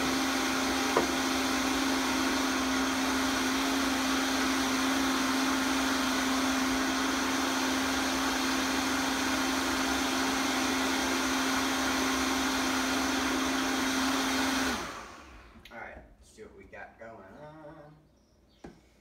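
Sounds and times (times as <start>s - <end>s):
blender whirring: 0.0s - 15.6s.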